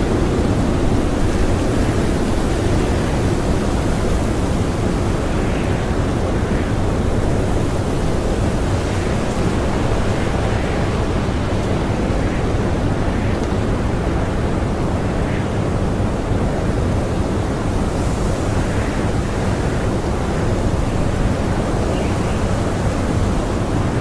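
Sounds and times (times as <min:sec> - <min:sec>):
strong blizzard wind: 0:00.0 - 0:24.0.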